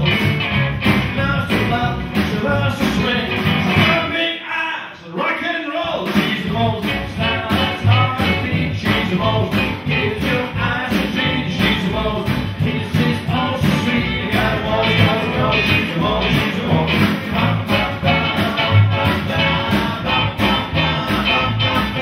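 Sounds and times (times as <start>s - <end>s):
live band playing upbeat song: 0.0s - 4.2s, 5.8s - 22.0s.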